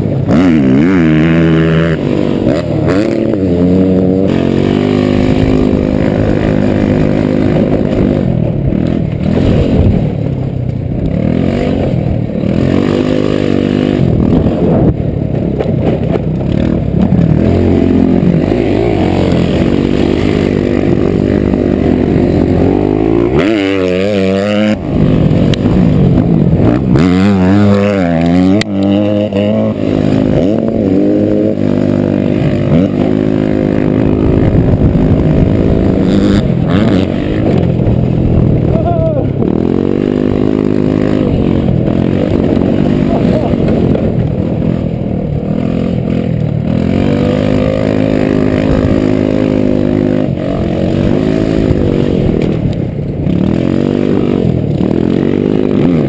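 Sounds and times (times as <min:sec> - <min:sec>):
scooter engine revving: 0:00.0 - 0:56.0
wind rumble on microphone: 0:01.0 - 0:56.0.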